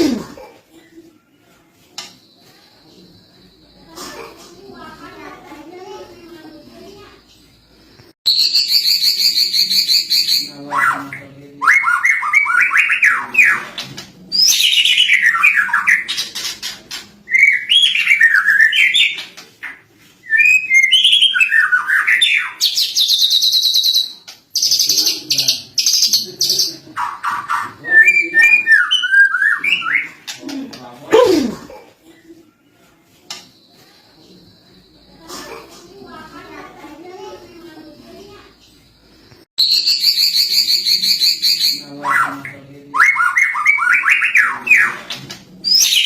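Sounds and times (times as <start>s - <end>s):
bird singing trills and chatter: 1.4s - 31.1s, 32.8s - 46.0s.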